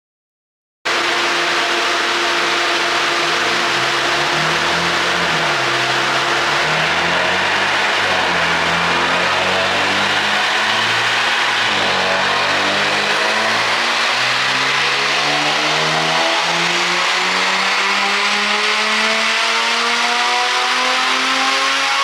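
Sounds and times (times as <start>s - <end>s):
car engine revving under load: 0.9s - 22.0s.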